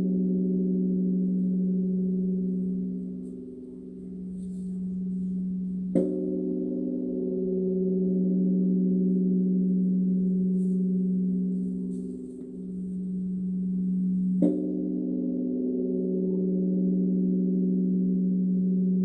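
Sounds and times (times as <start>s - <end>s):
large temple bell ringing: 0.0s - 19.0s.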